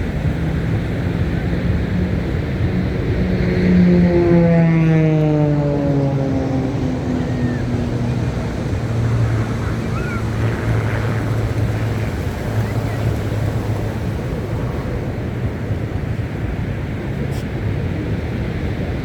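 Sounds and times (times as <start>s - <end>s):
propeller plane flying past: 0.0s - 19.0s
surf: 0.0s - 19.0s
wind: 0.0s - 19.0s.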